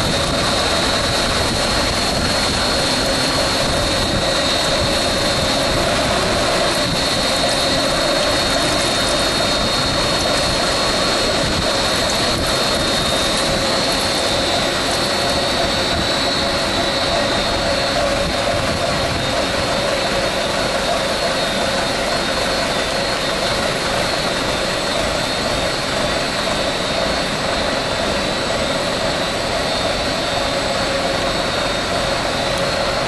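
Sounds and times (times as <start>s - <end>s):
machine noise with high whine: 0.0s - 33.0s.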